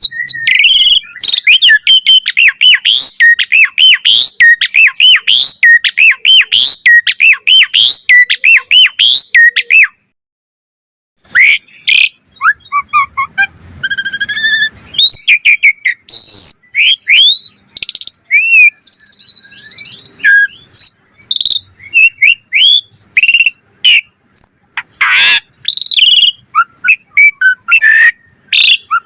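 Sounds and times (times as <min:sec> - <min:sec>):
bird chattering and whistling: 0:00.0 - 0:10.0, 0:11.3 - 0:29.0.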